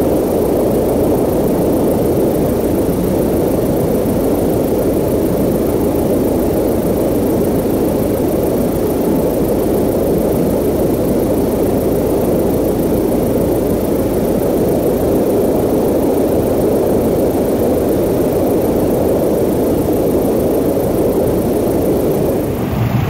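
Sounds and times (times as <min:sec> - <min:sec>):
helicopter rotor and engine drone: 0:00.0 - 0:23.0.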